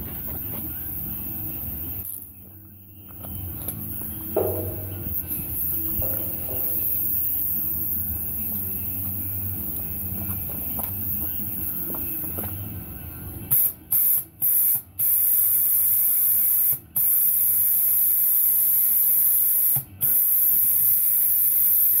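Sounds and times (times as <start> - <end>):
compressed air hissing from hose: 3.2 - 12.7, 13.5 - 22.0.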